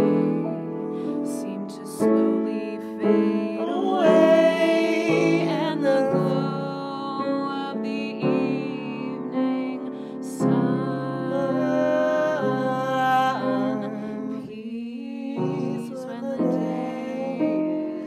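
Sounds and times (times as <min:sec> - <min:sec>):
man and woman singing: 0:00.0 - 0:18.0
piano chords: 0:00.0 - 0:18.0.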